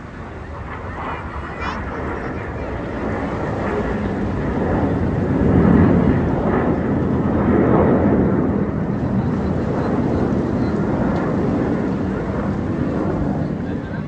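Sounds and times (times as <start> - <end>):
jet aircraft rumbling overhead: 0.0 - 14.0.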